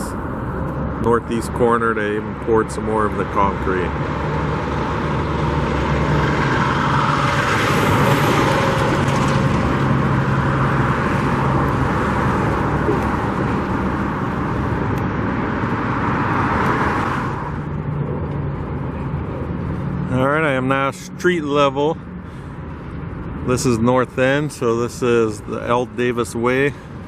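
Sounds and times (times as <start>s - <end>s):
cars passing close by: 0.0s - 27.0s.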